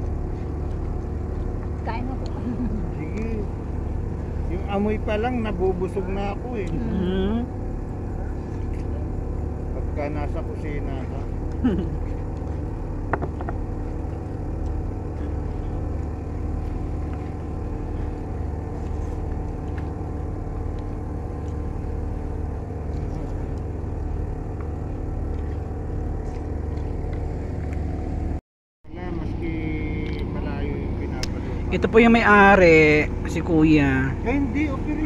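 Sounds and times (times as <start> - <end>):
low engine rumble: 0.0 - 35.0.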